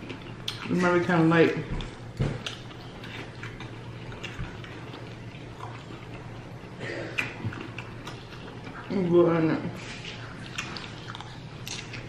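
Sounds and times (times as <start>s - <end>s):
people chewing nachos: 0.0s - 12.0s.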